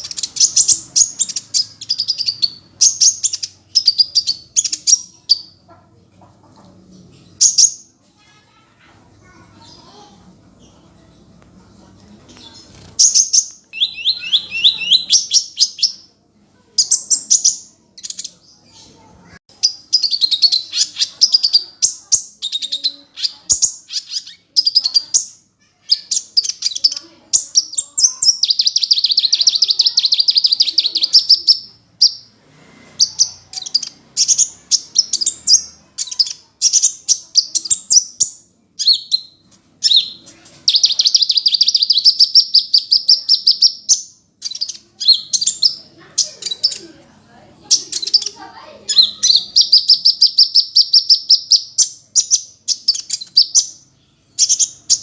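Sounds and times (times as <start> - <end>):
bird trilling and chirping: 0.0 - 11.4, 12.3 - 55.0.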